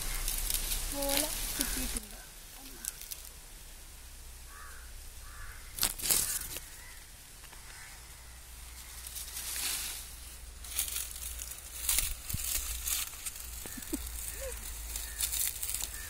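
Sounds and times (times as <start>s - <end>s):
dry palm fronds rustling: 0.0s - 16.0s.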